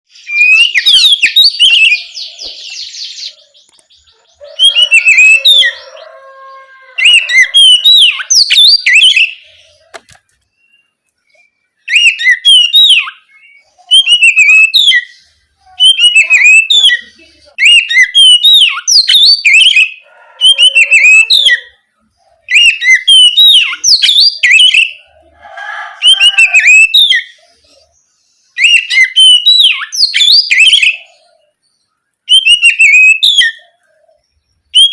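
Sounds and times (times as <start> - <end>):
bird song whistles and chirps: 0.1 - 9.9, 10.5 - 21.8, 22.4 - 34.9.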